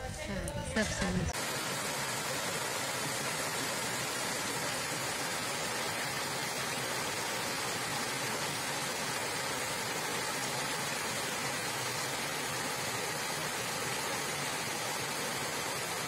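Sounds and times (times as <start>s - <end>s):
water rushing over rocks: 1.3s - 16.0s.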